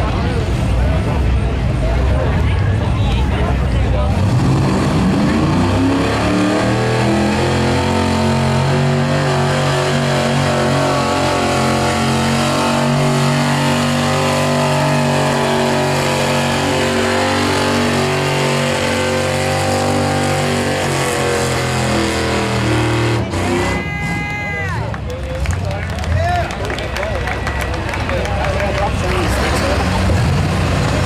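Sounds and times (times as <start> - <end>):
diesel truck engine under load: 0.0 - 31.0.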